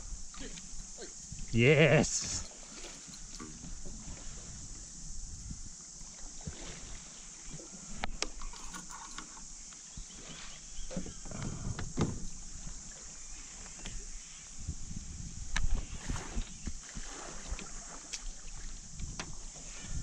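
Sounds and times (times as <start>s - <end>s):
steady high hiss: 0.0s - 16.9s.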